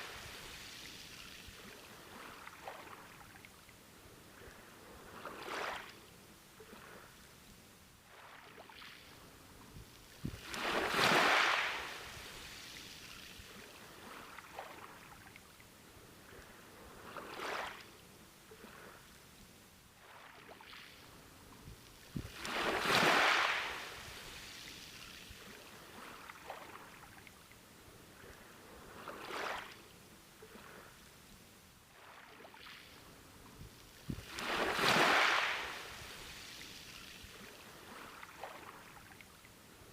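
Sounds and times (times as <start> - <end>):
ocean waves breaking on beach: 0.0 - 7.3, 8.0 - 15.3, 16.0 - 19.1, 20.0 - 27.2, 27.9 - 31.0, 31.9 - 39.9.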